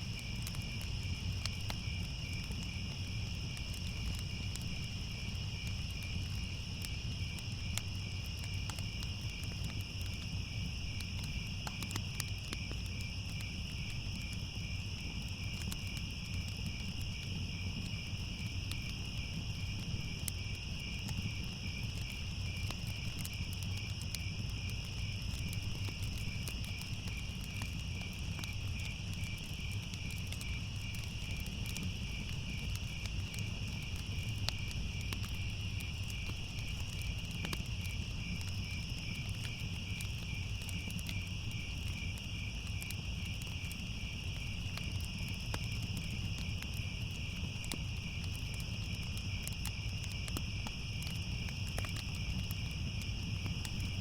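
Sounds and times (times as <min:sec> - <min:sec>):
crickets chirping: 0:00.0 - 0:54.0
fire crackling: 0:00.0 - 0:54.0.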